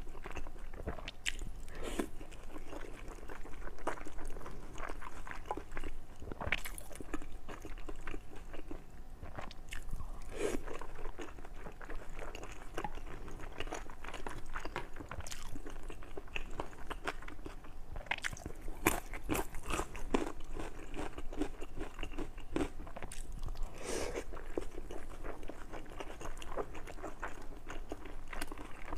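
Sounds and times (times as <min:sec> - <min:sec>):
crunching and chewing crisp food: 0:00.0 - 0:28.9.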